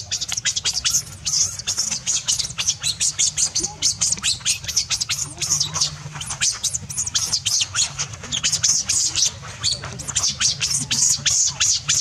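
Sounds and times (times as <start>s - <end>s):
high-pitched squeaky animal calls: 0.0s - 12.0s
steady low hum: 0.0s - 12.0s.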